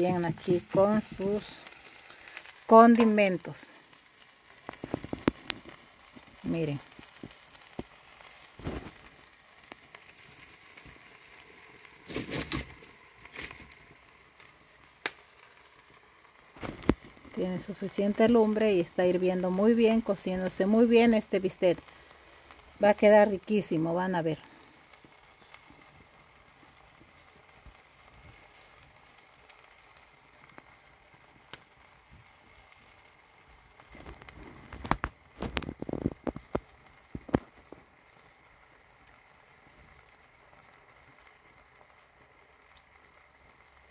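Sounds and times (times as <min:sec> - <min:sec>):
meat sizzling with pops: 0:00.0 - 0:43.9
steak crackling in a pan: 0:00.0 - 0:43.9.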